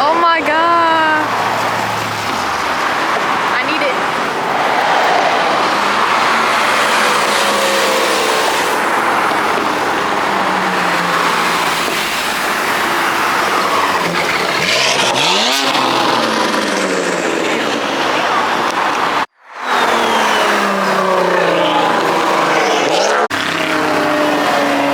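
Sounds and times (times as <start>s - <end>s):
car engine revving: 0.0s - 24.9s
traffic noise: 0.0s - 24.9s.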